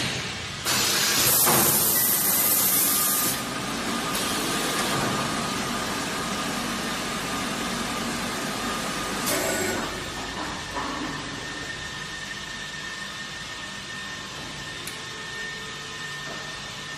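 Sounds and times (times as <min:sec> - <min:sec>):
machine running mechanical noise: 0:00.0 - 0:16.9.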